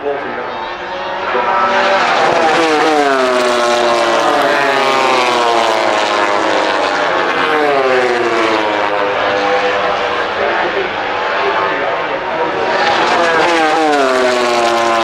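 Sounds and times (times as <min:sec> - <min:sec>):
race bikes passing at speed: 0:00.0 - 0:15.0.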